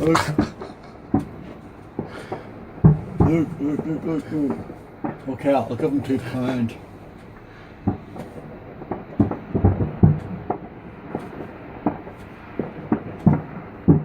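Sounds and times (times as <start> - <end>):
fireworks bangs and pops: 0.0 - 14.0.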